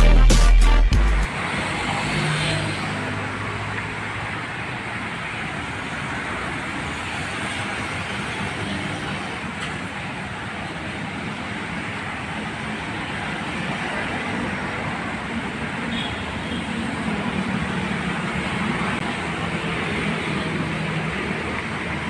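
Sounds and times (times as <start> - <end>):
cars passing on wet street: 1.3 - 22.0.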